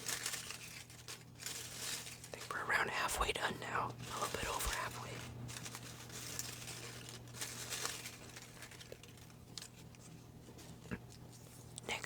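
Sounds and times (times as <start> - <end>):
paper rustling and crinkling: 0.0 - 12.0
small crackles: 0.0 - 12.0.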